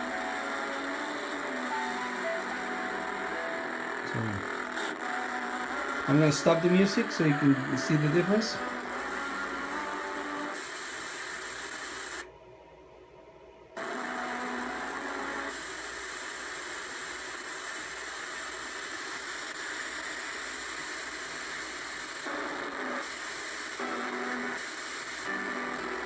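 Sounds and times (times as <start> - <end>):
electronic hiss with high whine: 0.0 - 12.4, 13.8 - 26.0.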